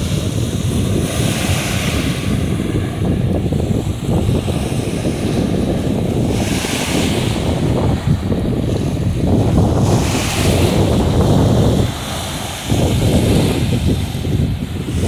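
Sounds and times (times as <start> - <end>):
small waves washing up beach: 0.0 - 15.0
wind buffeting microphone: 0.0 - 15.0.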